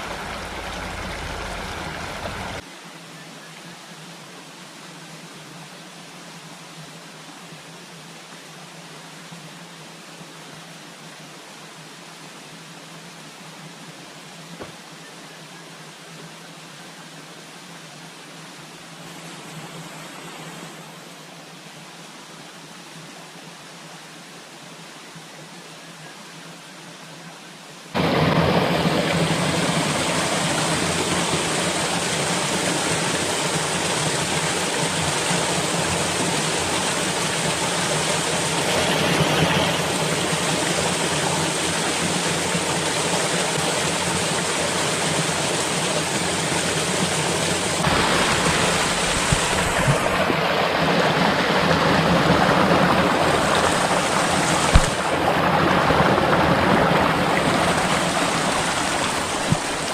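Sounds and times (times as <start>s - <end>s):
falling water rushing: 0.0s - 3.1s, 4.0s - 59.9s.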